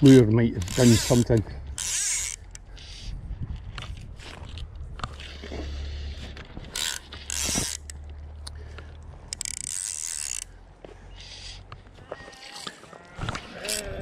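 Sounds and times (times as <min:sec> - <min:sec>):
fishing reel ratchet rasping: 0:00.0 - 0:04.0, 0:05.1 - 0:12.8, 0:13.6 - 0:14.0.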